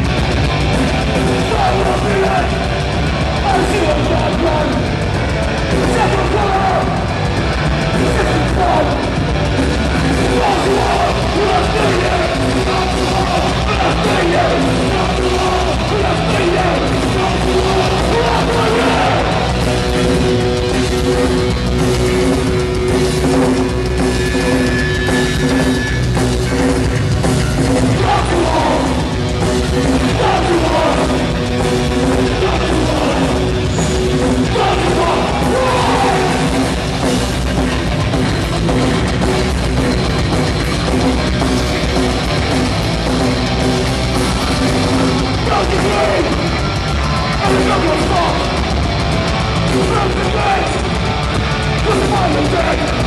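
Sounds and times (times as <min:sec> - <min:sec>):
live punk rock band: 0:00.0 - 0:53.0.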